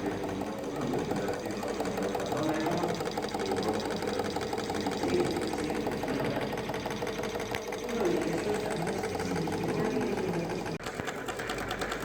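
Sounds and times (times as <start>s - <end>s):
small machine rattling: 0.0s - 12.0s.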